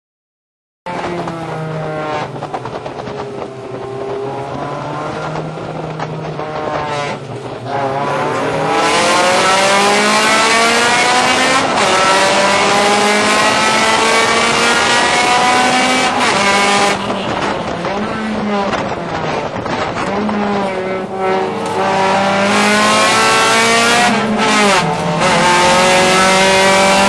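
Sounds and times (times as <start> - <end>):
race car engine accelerating: 0.9 - 27.0.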